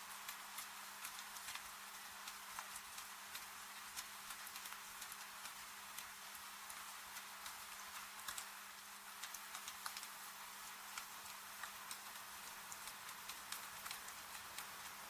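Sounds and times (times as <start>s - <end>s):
faint steady hum: 0.0s - 15.0s
rain hissing: 0.0s - 15.0s
wood fire crackling: 0.0s - 15.0s.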